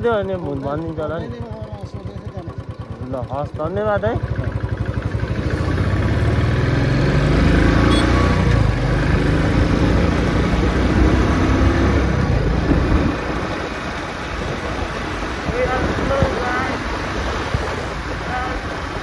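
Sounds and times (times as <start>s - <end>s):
motorcycle engine accelerating: 0.0s - 19.0s
wind and road noise: 3.2s - 19.0s.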